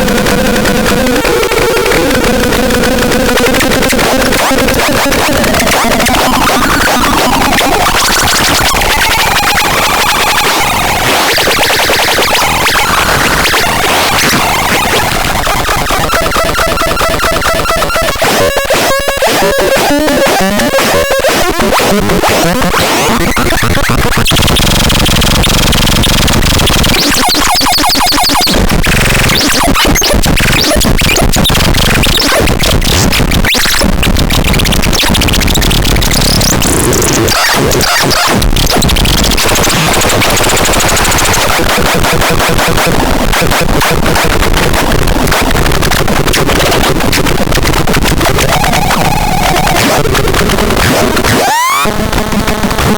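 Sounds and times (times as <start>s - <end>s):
harsh electronic noise: 0.0s - 52.9s.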